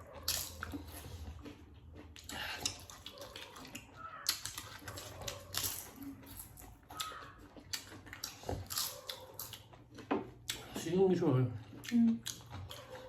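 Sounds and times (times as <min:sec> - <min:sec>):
wet chewing smacks: 0:00.0 - 0:13.0.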